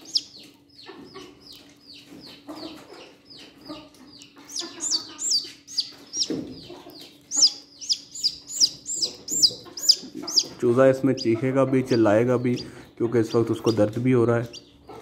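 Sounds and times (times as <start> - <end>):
chick peeping: 0.0 - 15.0.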